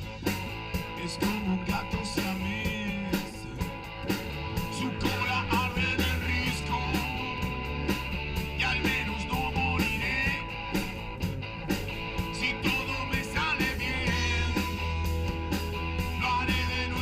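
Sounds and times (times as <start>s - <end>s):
bass guitar: 0.0s - 17.0s
electric guitar lead: 0.0s - 17.0s
steady drum beat: 0.0s - 17.0s.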